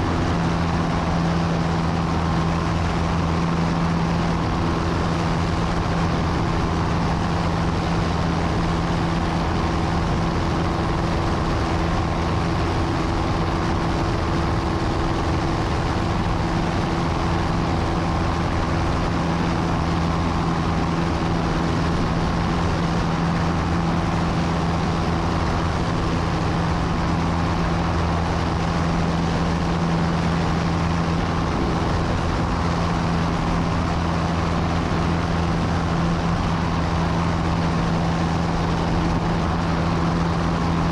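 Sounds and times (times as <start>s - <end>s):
aircraft engine droning: 0.0s - 40.9s.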